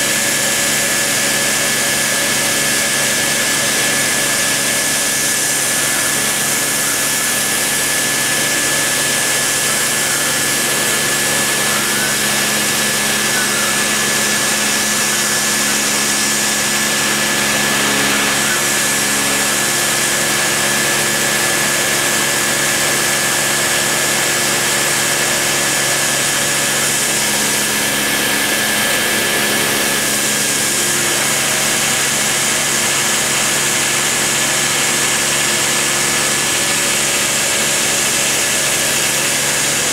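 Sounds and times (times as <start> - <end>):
rotary tool whining: 0.0 - 39.9.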